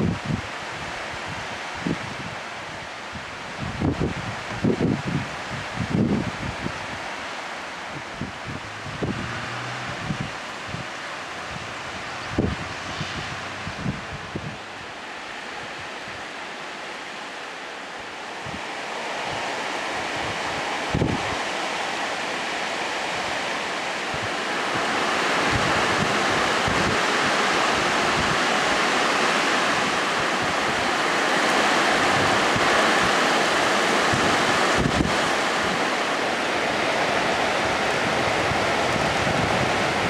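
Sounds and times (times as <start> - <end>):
wind buffeting microphone: 0.0 - 7.2, 7.8 - 15.0, 18.4 - 21.5, 24.1 - 40.0
wind and heavy rain: 0.0 - 40.0.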